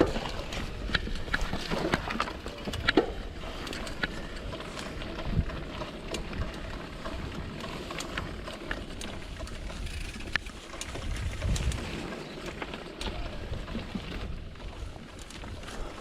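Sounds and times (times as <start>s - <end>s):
bike clicks and rattles: 0.0s - 16.0s
bike tyres rumbling on dirt: 0.0s - 16.0s.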